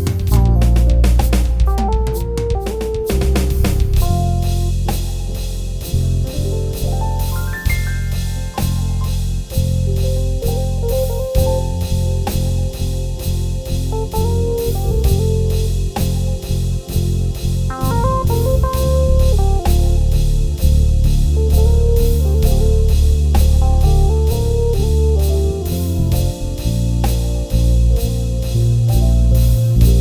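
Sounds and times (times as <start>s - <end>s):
keyboard worship music: 0.0s - 30.0s
steady drum beat: 0.0s - 30.0s.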